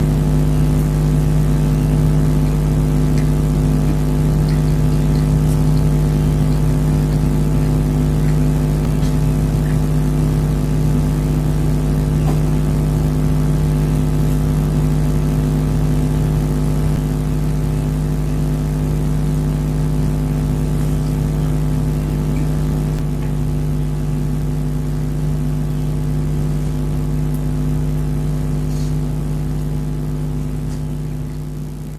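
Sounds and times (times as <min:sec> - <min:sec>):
low machine hum: 0:00.0 - 0:31.9.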